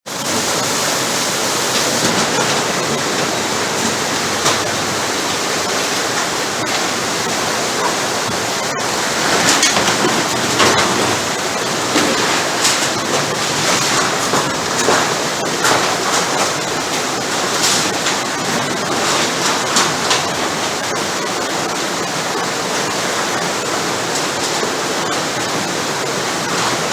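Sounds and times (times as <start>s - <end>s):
floodwater rushing: 0.0s - 26.9s
water splashing: 0.0s - 26.9s.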